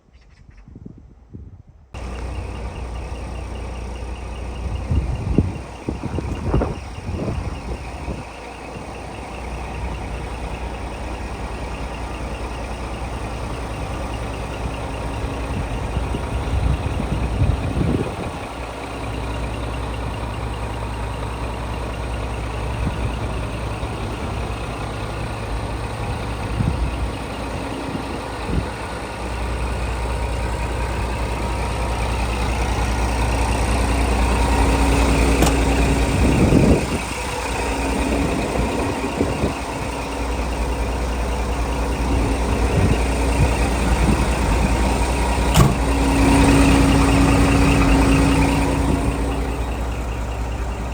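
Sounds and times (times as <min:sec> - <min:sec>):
diesel truck engine running: 0:02.0 - 0:50.9.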